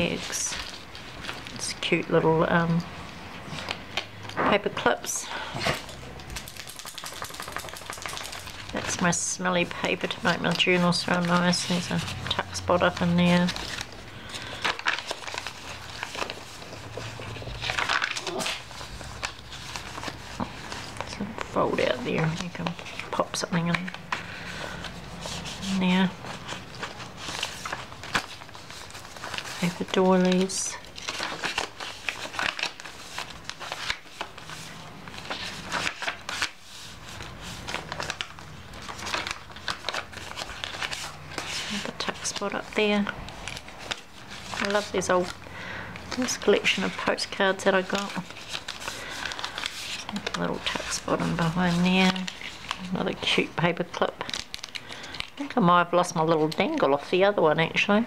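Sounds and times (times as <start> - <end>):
paper pages rustling: 0.0 - 57.2.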